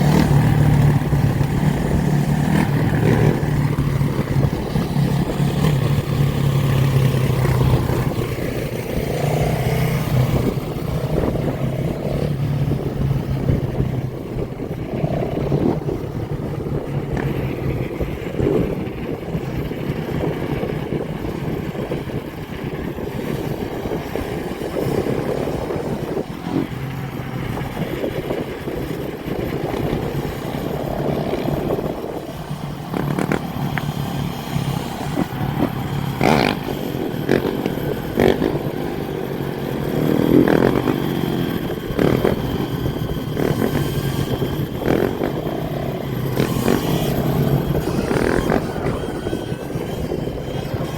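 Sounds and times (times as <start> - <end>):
low engine drone: 0.0 - 50.9
motorcycle engines revving: 0.0 - 50.9.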